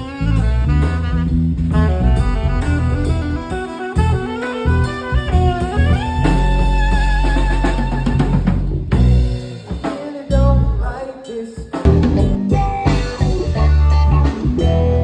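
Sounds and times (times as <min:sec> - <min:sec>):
band playing with singing: 0:00.0 - 0:15.0.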